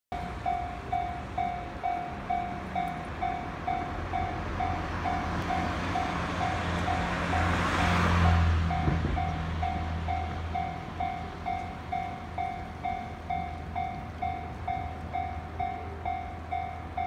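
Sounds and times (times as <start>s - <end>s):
diesel railcar engine rumble: 0.1s - 17.0s
level-crossing alarm clanging: 0.2s - 17.0s.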